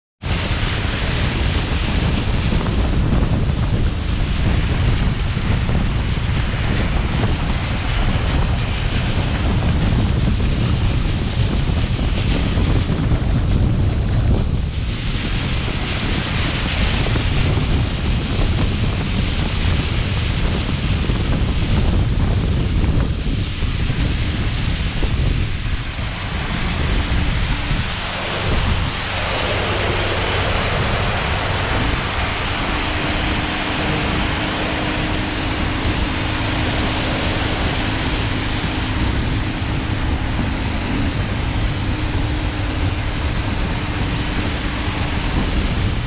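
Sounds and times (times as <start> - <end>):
rushing water: 0.2 - 46.0
wind buffeting microphone: 0.2 - 46.0.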